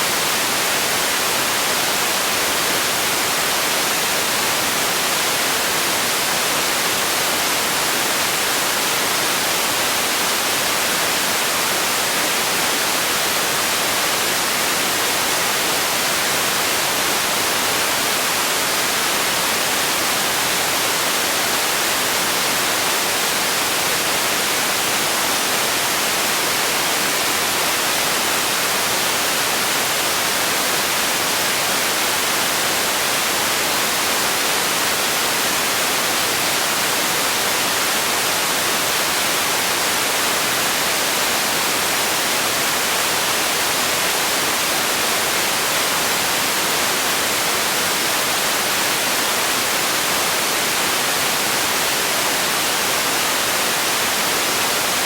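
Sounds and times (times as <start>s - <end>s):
generated noise hiss: 0.0s - 55.0s.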